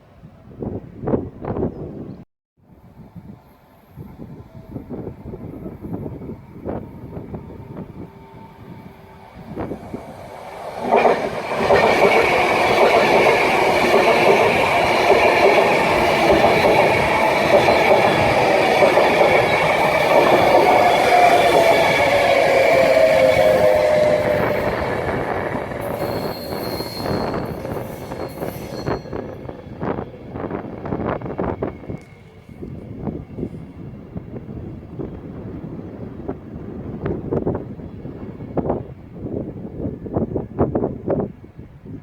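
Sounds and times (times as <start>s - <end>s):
train passing: 2.8s - 41.2s.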